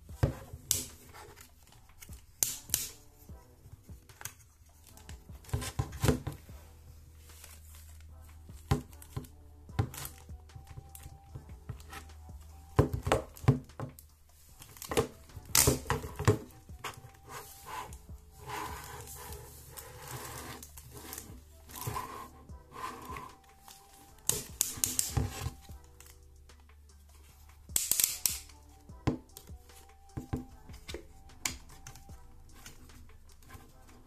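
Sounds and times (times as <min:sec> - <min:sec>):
soft background music: 0:00.0 - 0:34.0.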